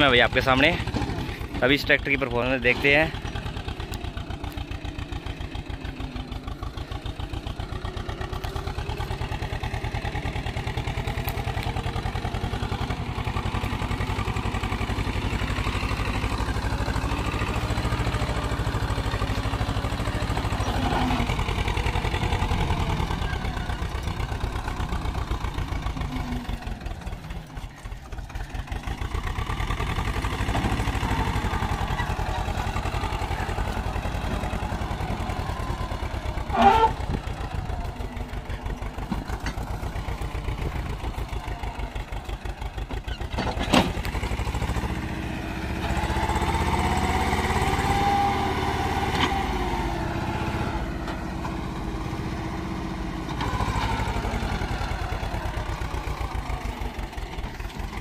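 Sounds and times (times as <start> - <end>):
tractor diesel engine pulsing: 0.0 - 58.0.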